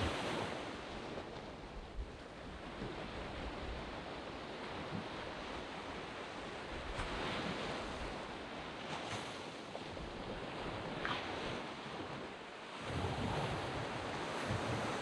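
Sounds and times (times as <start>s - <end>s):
waves washing on sandy beach: 0.0s - 15.0s.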